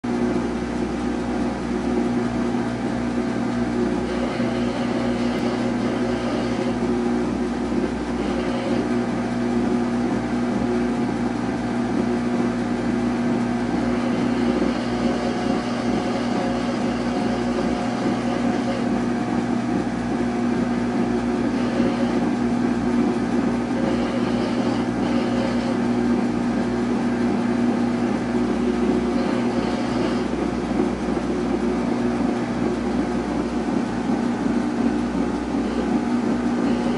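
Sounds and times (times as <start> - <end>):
washing machine motor hum: 0.0 - 36.9
high whine: 0.1 - 36.9.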